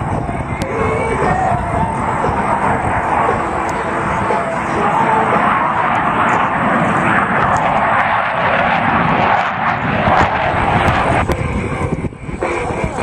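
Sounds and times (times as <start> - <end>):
fighter jets flying past: 0.0 - 13.0.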